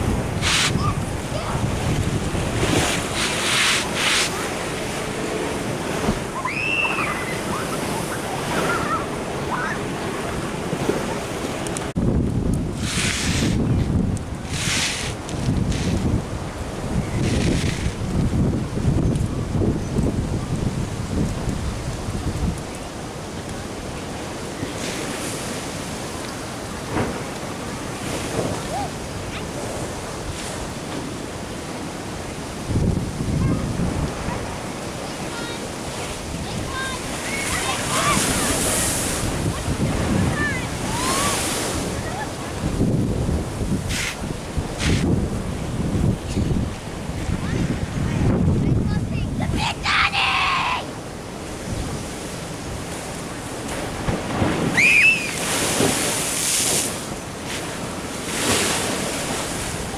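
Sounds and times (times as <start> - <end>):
ocean waves against a sea wall: 0.0 - 59.9
wind buffeting microphone: 0.0 - 59.9.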